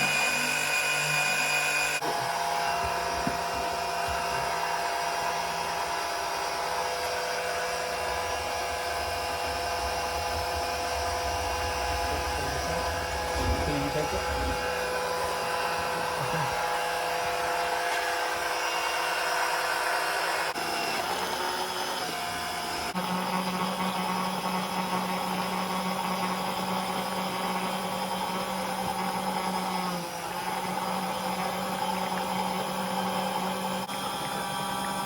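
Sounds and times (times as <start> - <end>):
electric pump running: 0.0 - 35.0.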